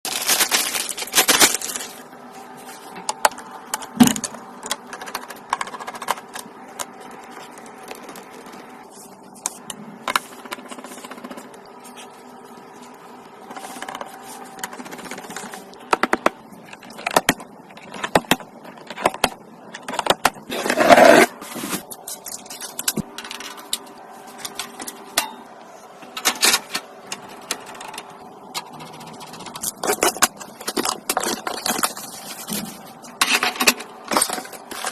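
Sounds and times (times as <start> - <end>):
computer parts clicking and tapping: 2.9 - 12.0, 13.4 - 20.5, 21.9 - 34.9.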